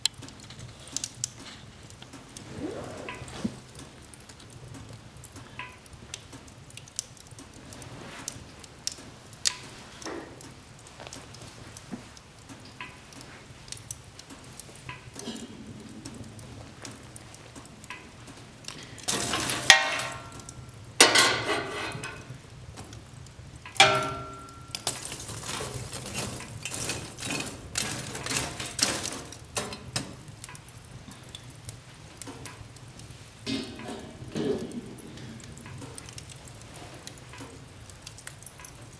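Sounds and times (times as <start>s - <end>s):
fire hissing: 0.0s - 38.9s
wood fire crackling and popping: 0.0s - 38.9s.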